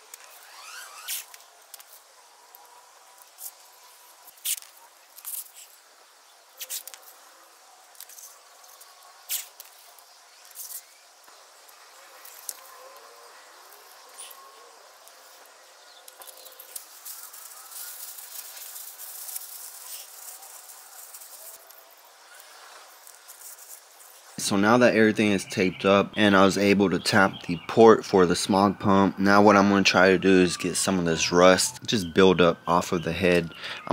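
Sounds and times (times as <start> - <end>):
faint steady hiss: 0.0 - 28.3.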